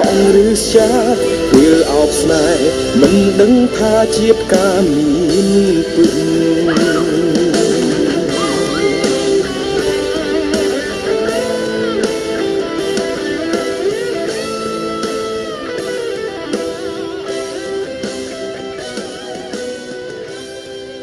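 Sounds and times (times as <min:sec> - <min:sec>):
electric guitar lead: 0:00.0 - 0:21.0
pop band playing: 0:00.0 - 0:21.0.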